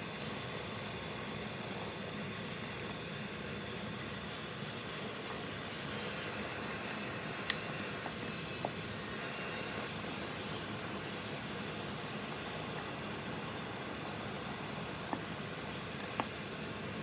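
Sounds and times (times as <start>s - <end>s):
bubbling hiss of boiling pot: 0.0s - 17.0s.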